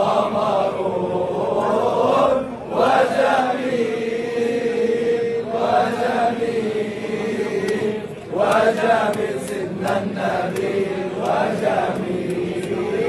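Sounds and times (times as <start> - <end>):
crowd of men chanting in unison: 0.0 - 13.0.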